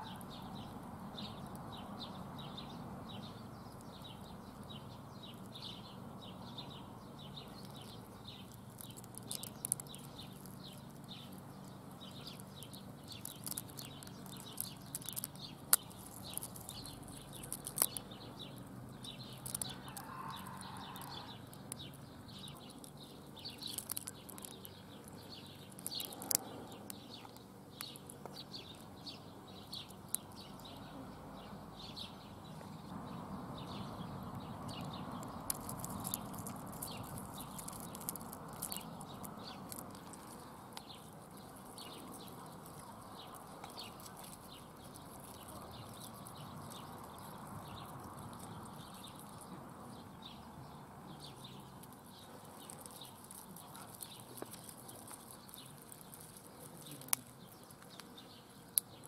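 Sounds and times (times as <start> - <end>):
birds chirping rapidly: 0.0 - 59.0.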